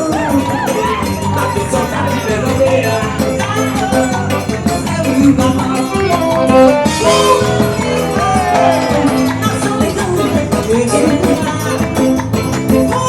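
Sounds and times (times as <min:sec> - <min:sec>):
upbeat folk band music: 0:00.0 - 0:13.0.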